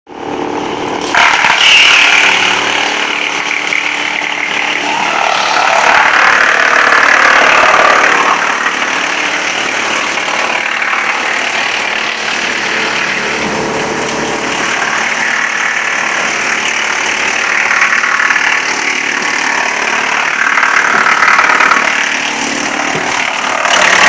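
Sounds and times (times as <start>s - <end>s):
wood chipper grinding: 0.1s - 24.0s.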